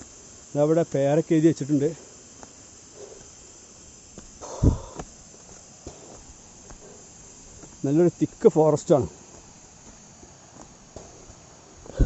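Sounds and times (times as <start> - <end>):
forest insects chorus: 0.0 - 12.0.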